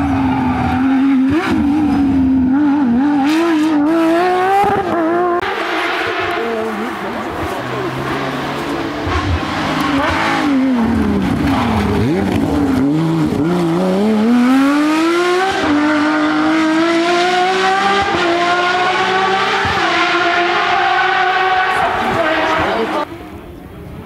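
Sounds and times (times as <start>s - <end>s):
rally car engine accelerating: 0.0s - 23.4s.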